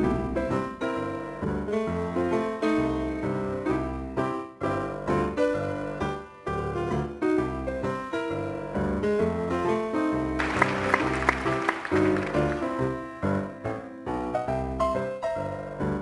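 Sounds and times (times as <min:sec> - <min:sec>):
piano melody: 0:00.0 - 0:16.0.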